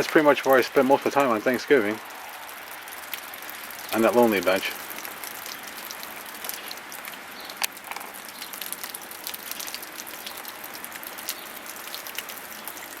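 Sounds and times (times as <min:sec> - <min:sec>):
wet snow and rain falling: 0:00.0 - 0:13.0.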